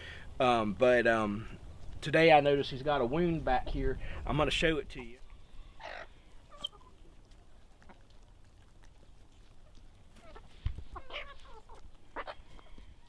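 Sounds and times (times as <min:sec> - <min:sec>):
chickens clucking: 0:01.5 - 0:13.0.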